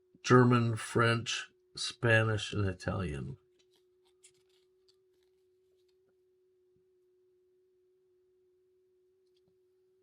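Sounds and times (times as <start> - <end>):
faint steady tone: 0.0 - 10.0.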